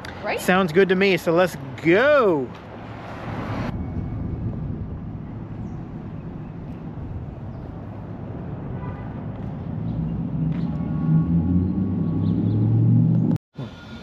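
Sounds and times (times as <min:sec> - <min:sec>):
faint traffic: 0:00.0 - 0:14.0
low street rumble: 0:00.0 - 0:14.0.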